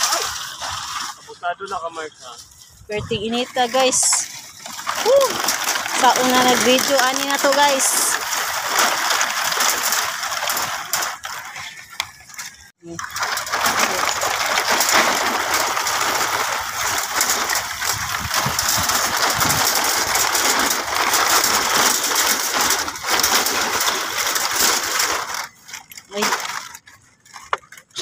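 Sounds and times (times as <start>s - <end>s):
plastic sheeting crackling: 0.0s - 28.0s.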